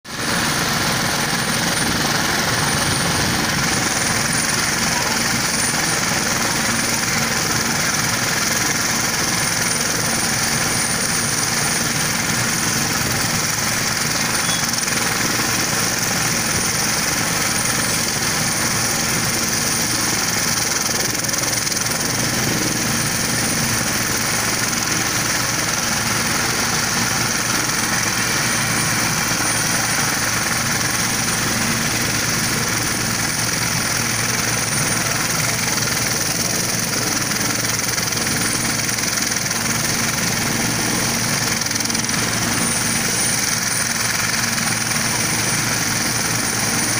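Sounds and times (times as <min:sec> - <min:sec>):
helicopter rotor and engine: 0:00.0 - 0:46.9
high turbine whine: 0:00.1 - 0:46.9.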